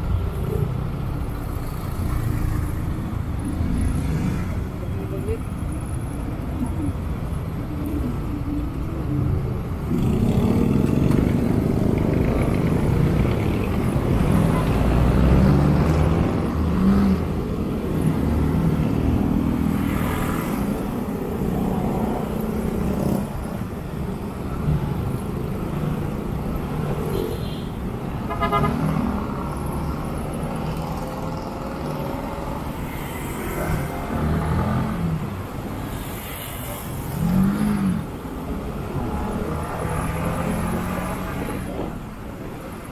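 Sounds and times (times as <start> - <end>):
road noise: 0.0 - 42.9
surrounding traffic engines: 0.0 - 42.9.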